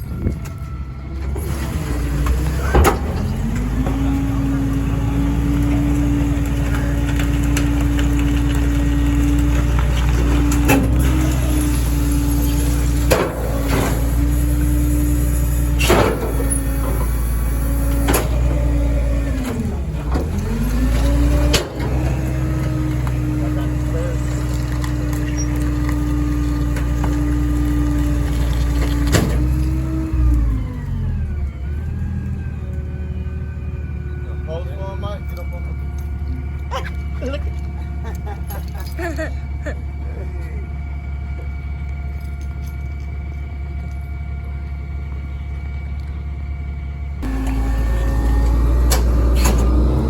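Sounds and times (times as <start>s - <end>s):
diesel truck engine rumble: 0.0s - 50.0s
hydraulic whine: 0.0s - 50.0s.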